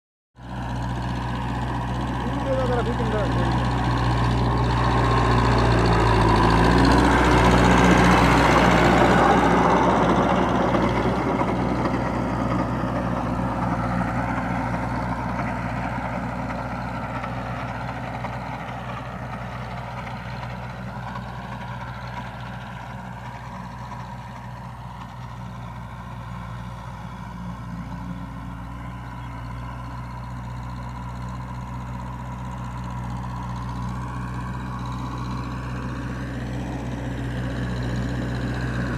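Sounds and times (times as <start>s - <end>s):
tractor engine running: 0.4s - 38.9s.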